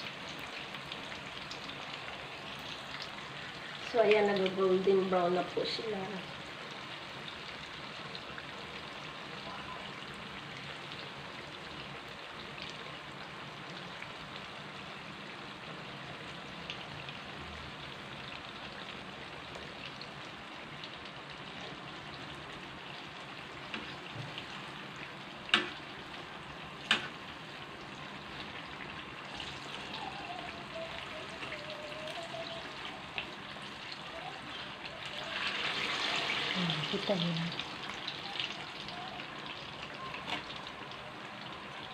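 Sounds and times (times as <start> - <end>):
food sizzling in hot oil: 0.0 - 41.9.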